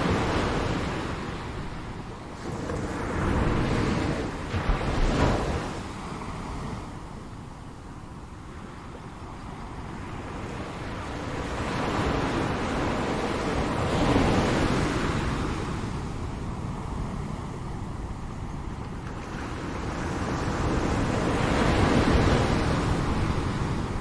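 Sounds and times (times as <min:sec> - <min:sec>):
ocean waves breaking: 0:00.0 - 0:24.0
wind rumble on microphone: 0:00.0 - 0:24.0.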